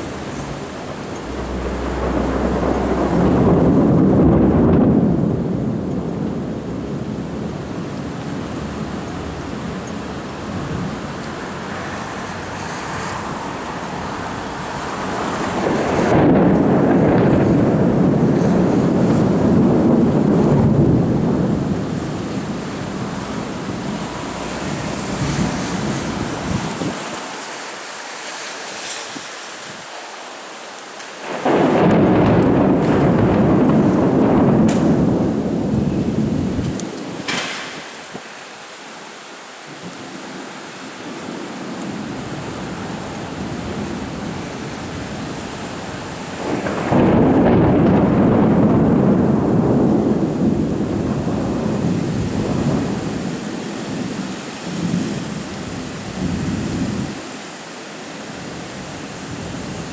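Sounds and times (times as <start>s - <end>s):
deep rough rumbling from sky: 0.0s - 27.5s, 31.2s - 38.2s, 41.2s - 57.2s.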